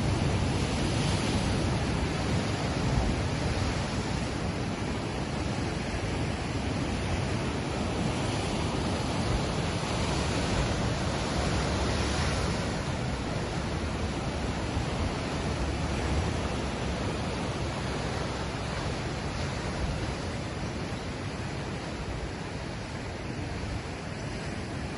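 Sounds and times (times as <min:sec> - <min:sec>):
ocean waves washing in: 0:00.0 - 0:24.9.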